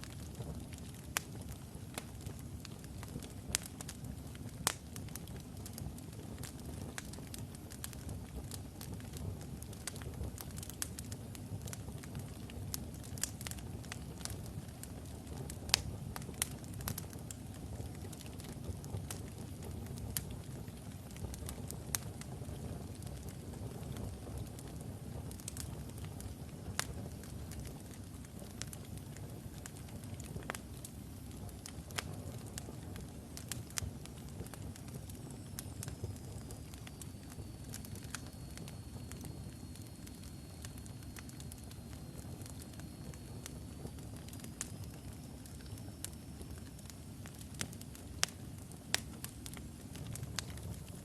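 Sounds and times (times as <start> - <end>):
burning wood crackling and popping: 0.0 - 51.0
low rumble of flame: 0.0 - 51.0.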